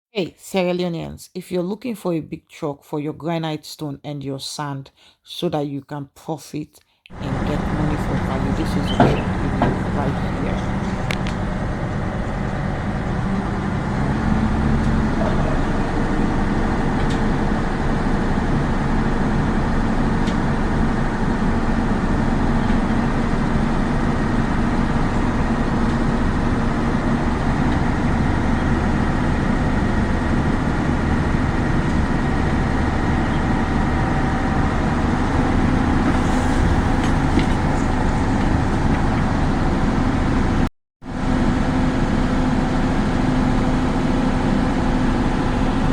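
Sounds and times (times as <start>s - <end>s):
truck engine running: 7.1s - 45.9s.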